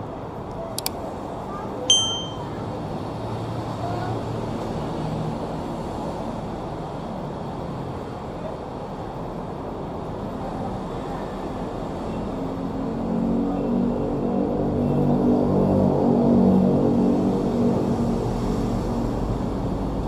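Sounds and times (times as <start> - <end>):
city road traffic roar: 0.0 - 20.0.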